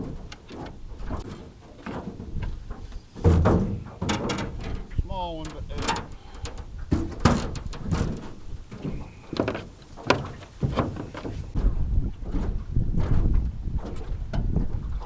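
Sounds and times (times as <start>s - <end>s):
irregular knocks and clunks: 0.0s - 15.0s
wind buffeting microphone: 0.0s - 15.0s.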